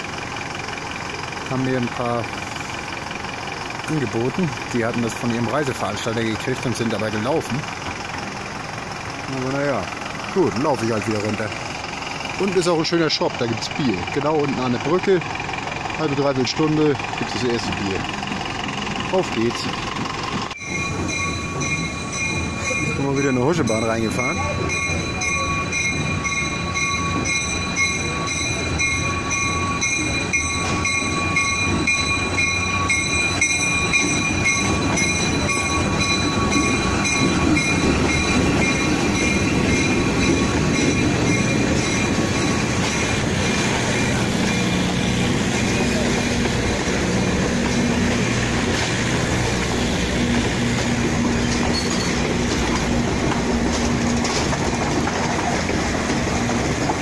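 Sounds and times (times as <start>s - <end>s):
train rumbling past: 0.0s - 57.0s
wheels clacking: 0.0s - 57.0s.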